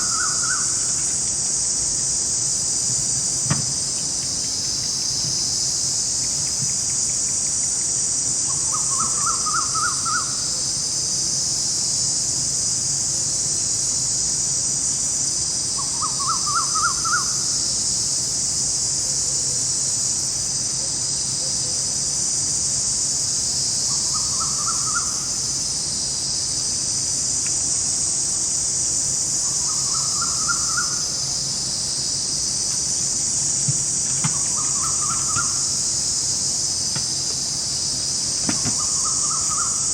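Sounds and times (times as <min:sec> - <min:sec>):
forest insects chorus: 0:00.0 - 0:39.9.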